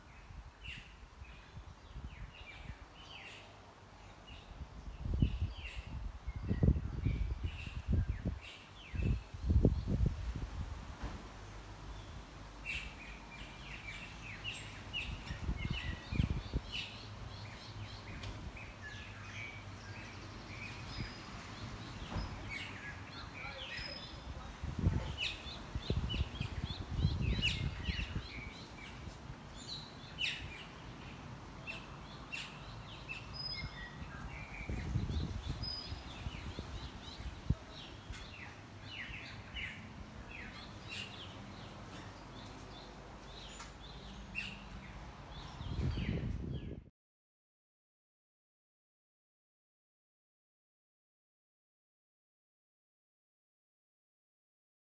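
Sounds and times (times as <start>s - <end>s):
birds chirping: 0.0s - 10.4s, 11.4s - 46.9s.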